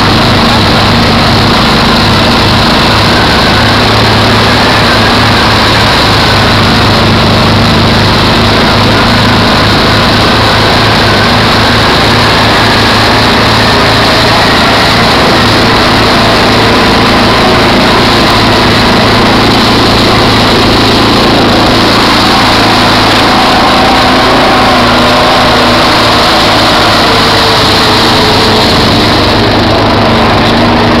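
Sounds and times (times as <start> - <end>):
atv engine running: 0.0 - 31.0
wheels splashing through water: 0.0 - 31.0.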